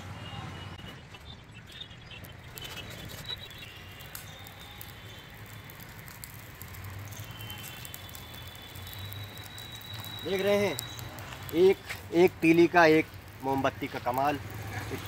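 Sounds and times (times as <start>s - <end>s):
dry leaves burning and crackling: 0.9s - 15.0s.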